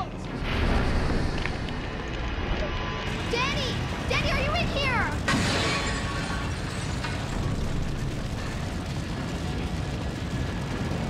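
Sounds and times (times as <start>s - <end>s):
fire burning: 0.0s - 11.0s
low rumble: 0.0s - 11.0s.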